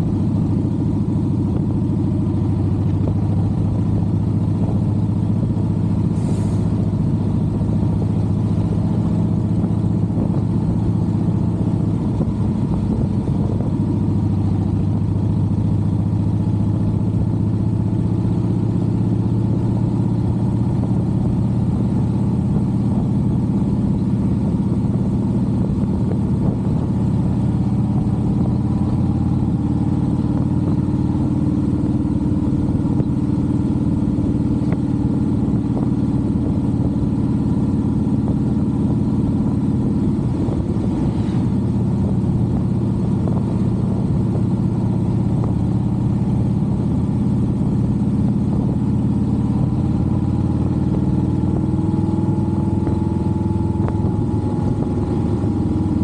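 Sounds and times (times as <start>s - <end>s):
motorcycle engine running: 0.0s - 56.0s
road rumble: 0.0s - 56.0s.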